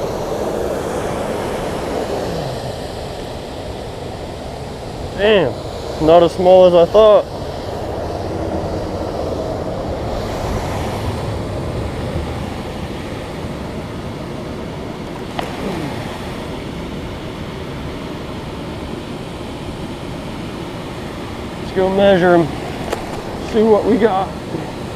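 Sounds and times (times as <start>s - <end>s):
water rushing through a spillway: 0.0s - 24.9s.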